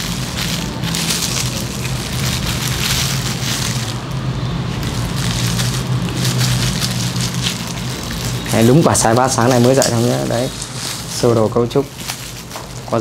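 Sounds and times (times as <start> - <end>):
plastic gloves rustling: 0.0 - 13.0.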